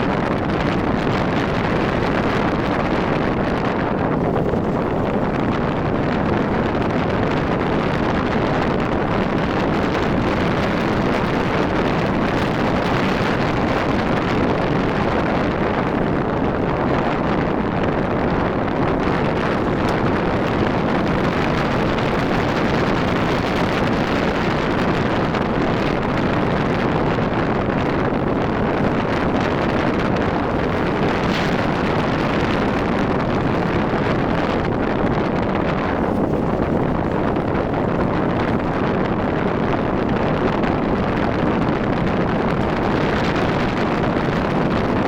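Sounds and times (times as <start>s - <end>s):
road noise: 0.0s - 45.0s
wind rush on microphone: 0.0s - 45.0s.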